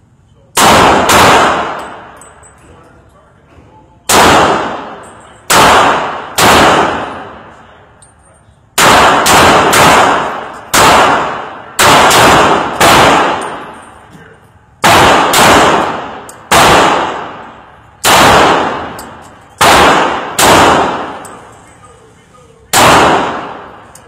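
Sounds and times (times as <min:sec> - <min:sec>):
pistol shots echoing indoors: 0:00.5 - 0:02.6, 0:04.0 - 0:24.0.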